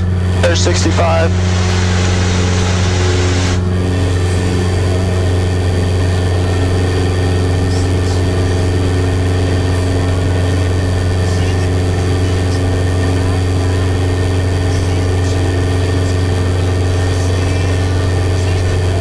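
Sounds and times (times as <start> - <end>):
propeller plane engine droning: 0.0 - 19.0.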